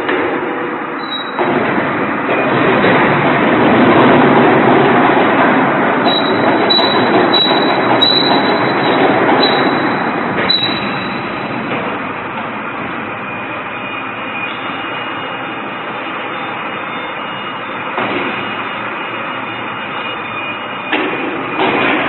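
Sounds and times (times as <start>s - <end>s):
machinery noise: 0.0s - 22.0s.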